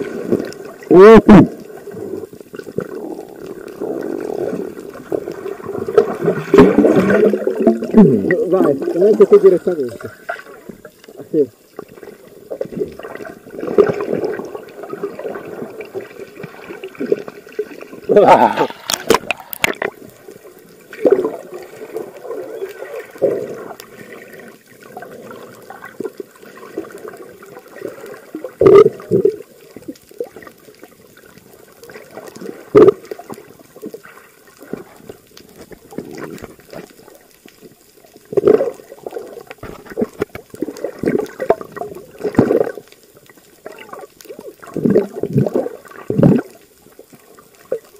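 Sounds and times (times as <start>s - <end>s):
muffled underwater sloshing: 0.0s - 47.9s.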